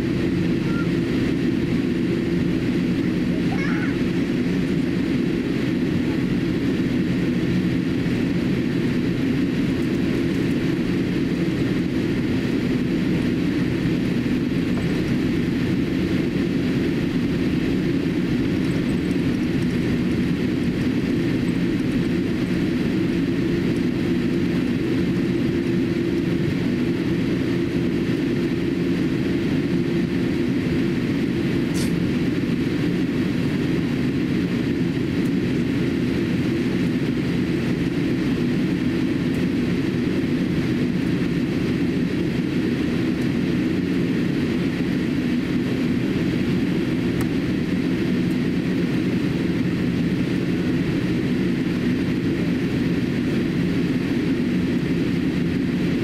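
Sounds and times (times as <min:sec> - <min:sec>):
airliner cabin engine hum: 0:00.0 - 0:56.0.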